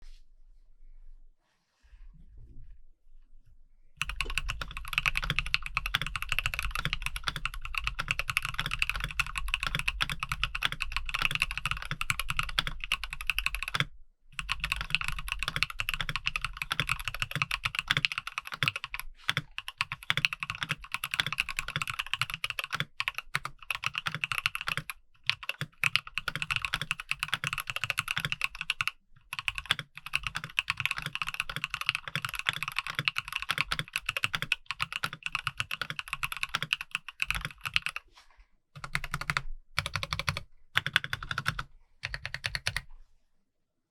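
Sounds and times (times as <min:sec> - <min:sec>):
mechanical keyboard typing: 0:04.0 - 0:38.0, 0:38.8 - 0:42.9.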